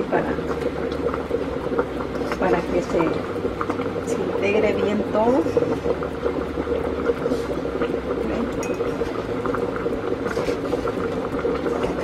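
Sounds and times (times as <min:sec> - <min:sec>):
rice bubbling and sizzling in pot: 0:00.0 - 0:12.0.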